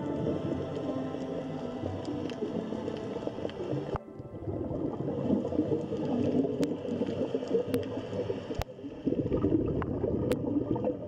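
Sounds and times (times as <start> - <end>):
underwater bubbles gurgling: 0.0 - 11.0.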